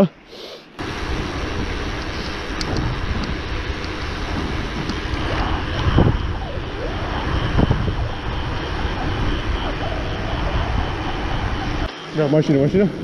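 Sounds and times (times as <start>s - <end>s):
wind on microphone: 0.8s - 11.9s
bike tyres rolling on asphalt: 0.8s - 12.4s.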